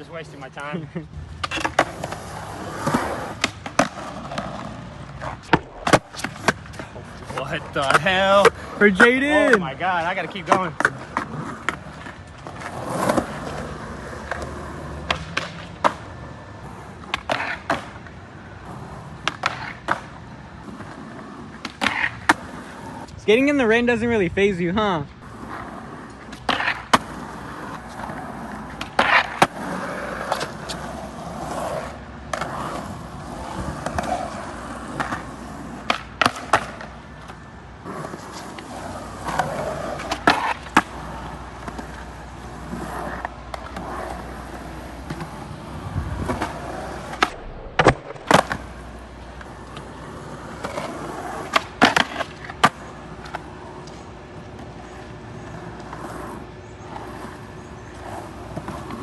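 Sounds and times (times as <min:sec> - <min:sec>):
skateboard wheels rolling on wet pavement: 0:00.0 - 0:24.0, 0:25.2 - 0:59.0
skateboard clacks: 0:01.4 - 0:23.1, 0:25.2 - 0:59.0.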